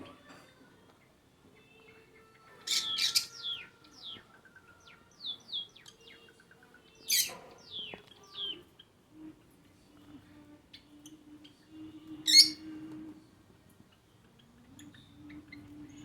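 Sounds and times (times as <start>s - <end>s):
lovebirds chirping: 0.9s - 16.0s.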